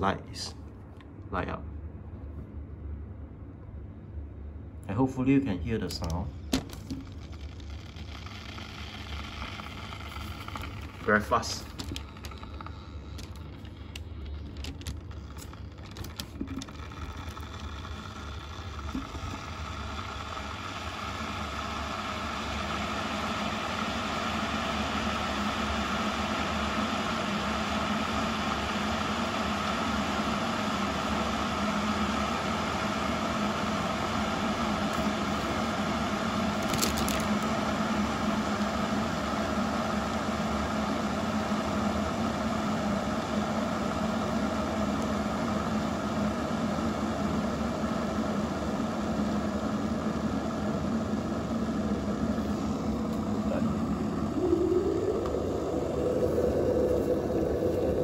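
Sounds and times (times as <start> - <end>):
electric kettle heating water: 4.9 - 58.0.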